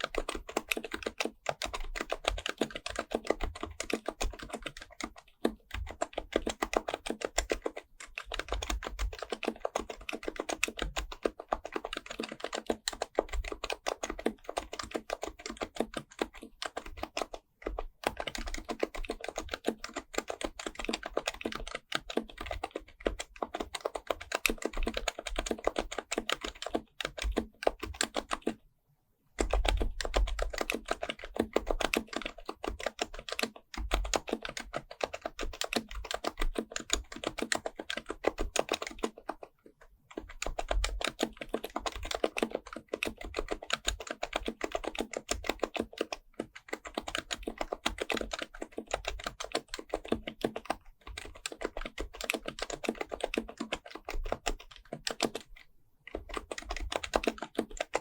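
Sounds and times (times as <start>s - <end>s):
fast keyboard typing: 0.0s - 28.6s, 29.4s - 58.0s.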